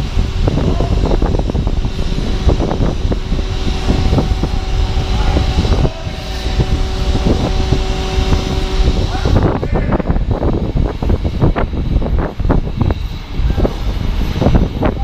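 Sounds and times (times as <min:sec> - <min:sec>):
heavy engine running: 0:00.0 - 0:15.0
steady hum: 0:00.0 - 0:15.0
wind buffeting on microphone: 0:00.0 - 0:15.0.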